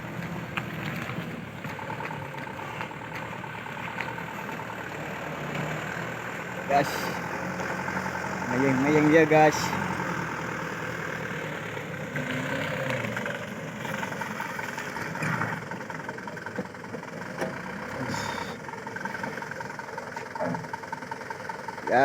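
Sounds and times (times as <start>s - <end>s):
truck engine running at low revs: 0.0s - 22.0s.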